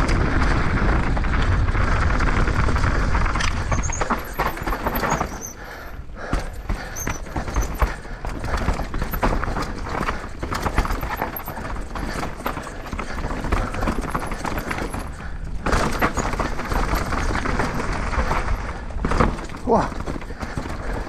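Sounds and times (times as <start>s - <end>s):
mountain bike rattling over rocks: 0.0s - 21.0s.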